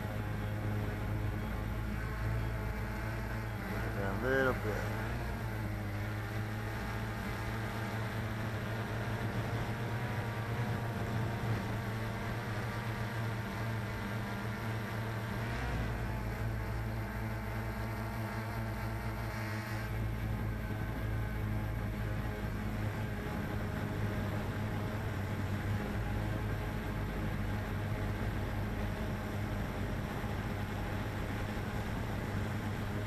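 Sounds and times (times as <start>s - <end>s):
quadcopter motors buzzing: 0.0s - 33.0s.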